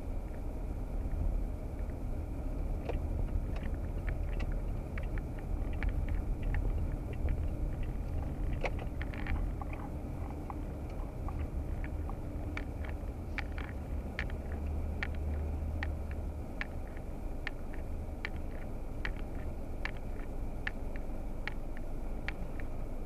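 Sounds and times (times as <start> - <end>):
engine and road hum: 0.0 - 23.0
turn signal ticking: 0.1 - 23.0.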